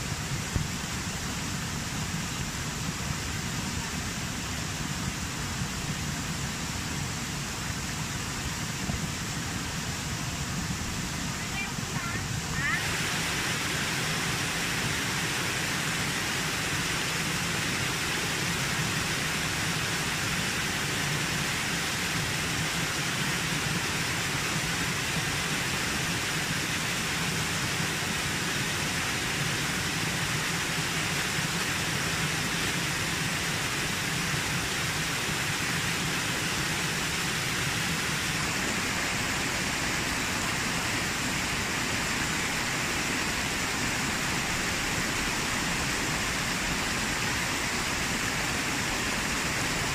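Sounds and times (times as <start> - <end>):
small waterfall pouring over rock: 0.0 - 49.9.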